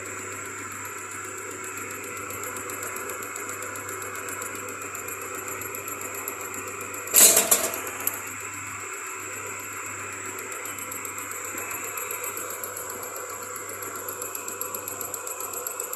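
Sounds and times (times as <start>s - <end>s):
machine running with ticking whine: 0.0s - 15.9s.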